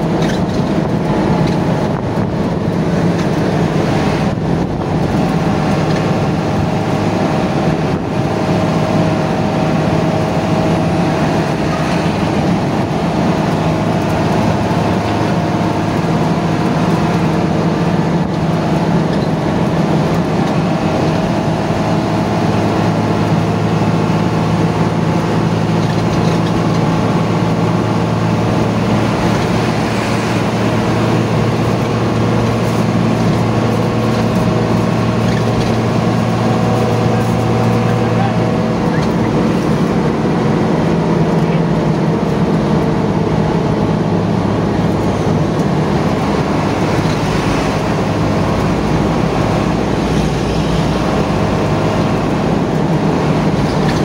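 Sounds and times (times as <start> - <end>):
bus diesel engine drone: 0.0 - 54.0
constant low hum: 0.0 - 54.0
road noise: 0.0 - 54.0.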